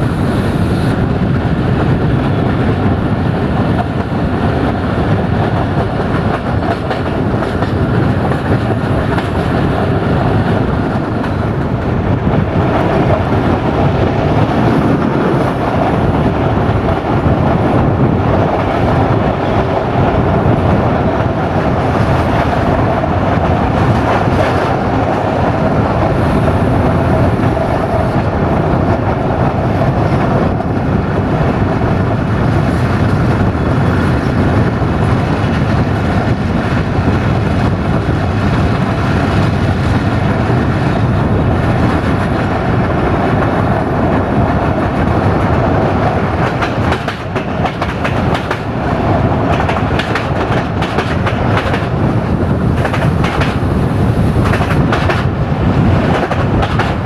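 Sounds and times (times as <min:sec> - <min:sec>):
diesel railcar running at speed: 0:00.0 - 0:57.0.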